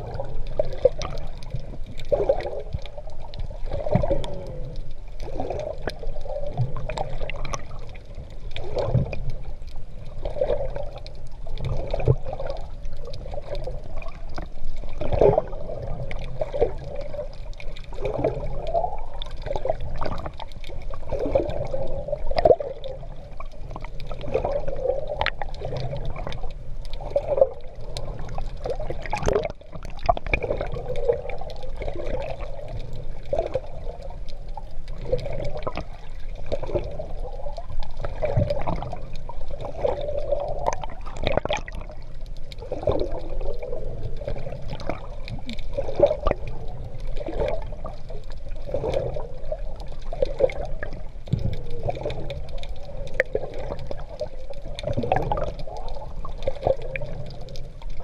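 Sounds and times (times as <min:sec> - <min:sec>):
water gurgling and splashing: 0:00.0 - 0:58.0.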